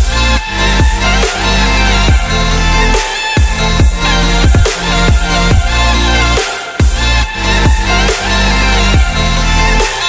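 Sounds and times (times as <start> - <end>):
electronic pop music with deep bass: 0.0 - 10.0.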